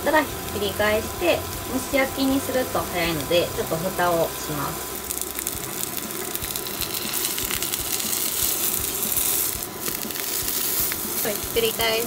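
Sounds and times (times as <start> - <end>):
patties sizzling in frying pan: 0.0 - 12.0
spatula turning patty: 0.5 - 12.0.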